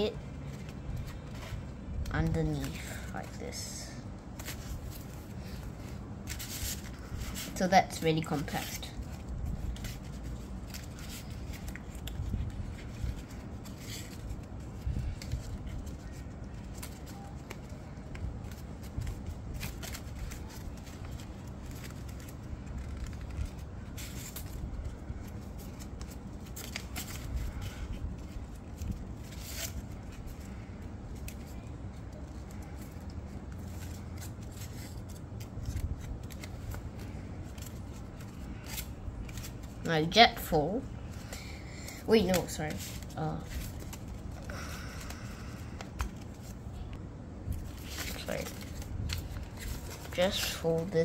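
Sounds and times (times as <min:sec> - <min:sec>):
low background rumble: 0:00.0 - 0:51.0
paper crinkling and rustling: 0:00.0 - 0:51.0.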